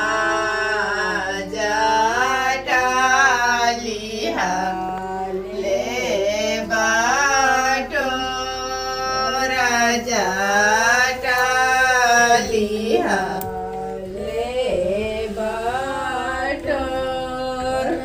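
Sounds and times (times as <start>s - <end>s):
woman singing folk song: 0.0s - 18.0s.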